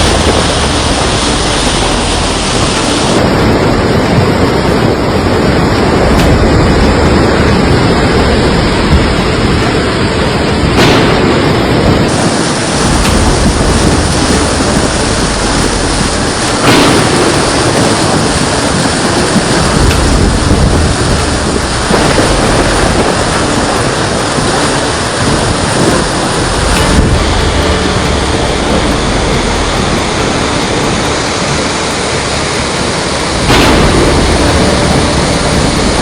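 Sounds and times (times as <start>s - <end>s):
deep rumble: 0.0s - 36.0s
heavy rain: 0.0s - 36.0s
wind: 0.0s - 36.0s
sharp sudden sound: 5.9s - 32.5s, 33.1s - 36.0s.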